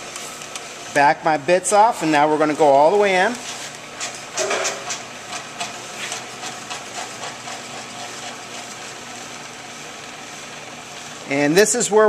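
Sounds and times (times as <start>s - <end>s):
brake lathe humming: 2.0s - 12.0s.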